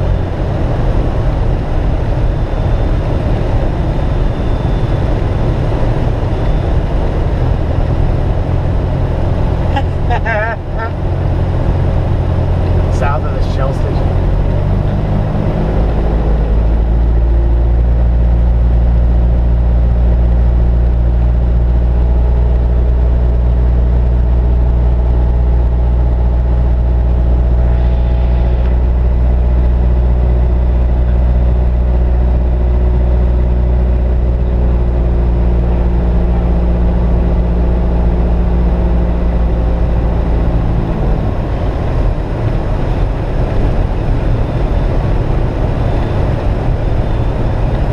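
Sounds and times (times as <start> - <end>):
light aircraft engine and propeller: 0.0 - 47.9.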